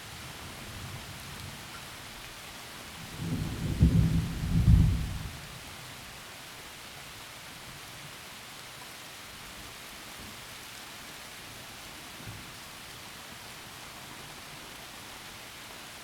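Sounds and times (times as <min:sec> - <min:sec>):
heavy rain through trees: 0:00.0 - 0:16.0.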